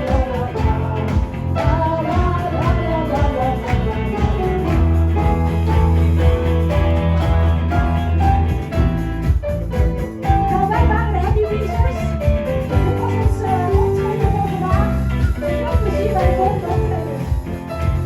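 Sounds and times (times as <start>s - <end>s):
live band playing: 0.0s - 18.0s.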